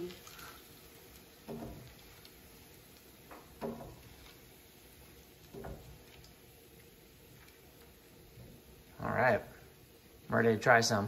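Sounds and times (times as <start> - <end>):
frying oil hiss: 0.0 - 11.0.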